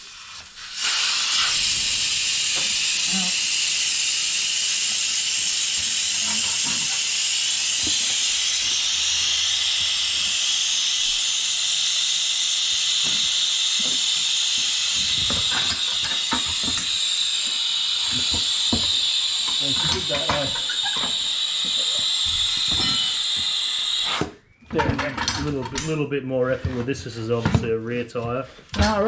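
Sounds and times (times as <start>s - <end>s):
steady high hiss: 0.0s - 24.2s.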